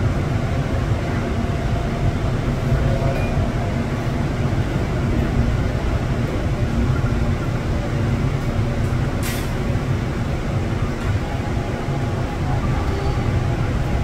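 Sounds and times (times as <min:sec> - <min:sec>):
subway wheels rumbling: 0:00.0 - 0:14.0.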